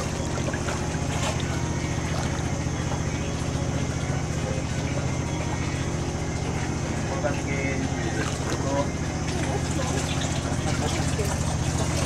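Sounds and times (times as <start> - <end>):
motor engine running steadily: 0.0 - 12.0.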